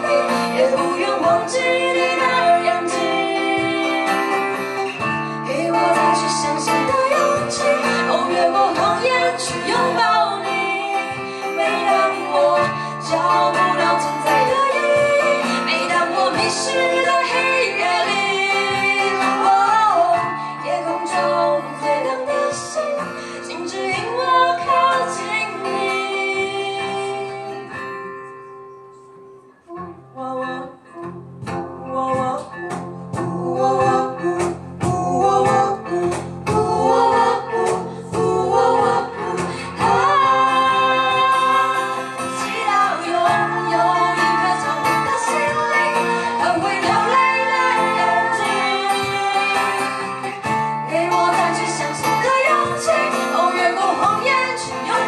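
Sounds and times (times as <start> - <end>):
cajon beat: 0.0 - 22.8, 31.3 - 55.0
group singing in harmony: 0.0 - 28.0, 32.1 - 55.0
acoustic guitar: 0.0 - 55.0.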